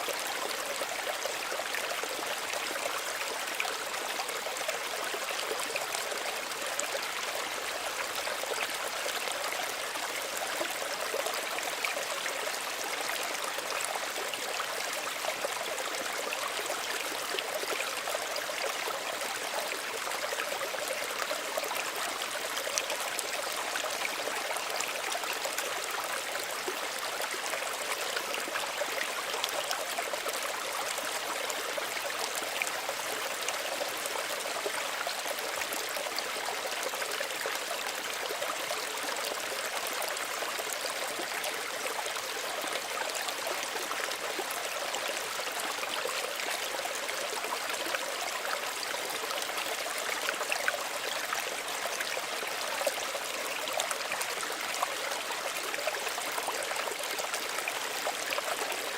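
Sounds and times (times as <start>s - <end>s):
stream babbling and trickling: 0.0s - 58.9s.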